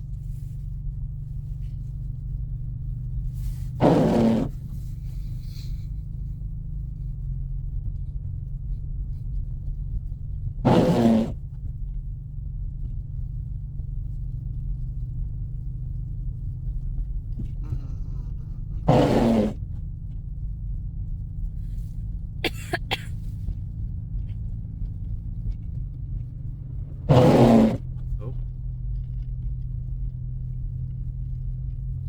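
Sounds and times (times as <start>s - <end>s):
car engine and tyres droning: 0.0s - 32.0s.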